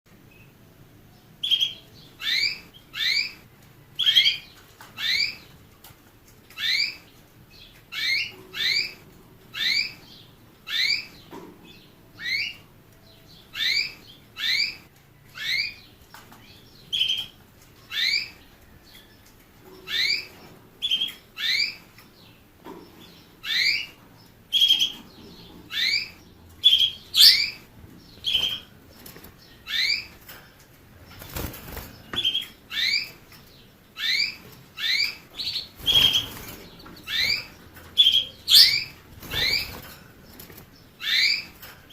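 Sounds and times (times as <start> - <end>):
finch chirping: 0.3 - 5.6, 6.5 - 41.9.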